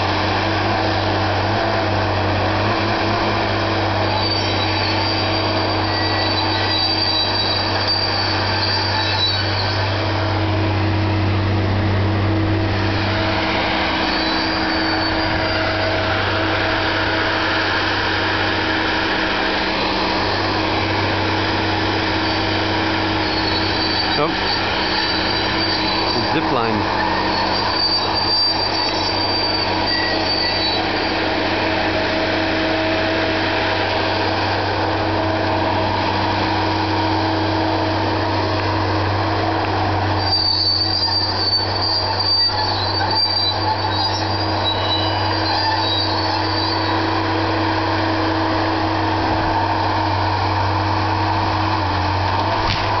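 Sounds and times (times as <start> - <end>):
high-pitched squeal: 0.0 - 49.6
machine engine droning: 0.0 - 53.0.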